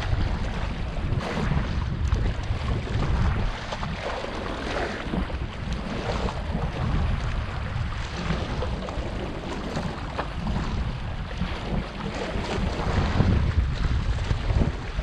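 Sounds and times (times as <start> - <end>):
sea water washing against rocks: 0.0 - 15.0
wind buffeting microphone: 0.0 - 15.0.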